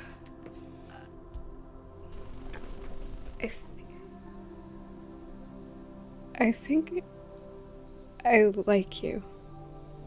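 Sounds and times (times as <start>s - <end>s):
film score sustained chord: 0.0s - 10.0s.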